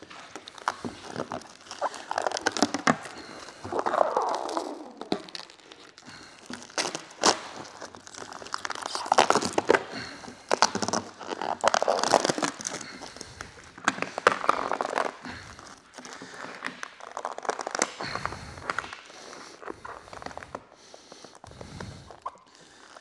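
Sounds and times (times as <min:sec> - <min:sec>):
plastic film crinkling: 0:00.0 - 0:23.0.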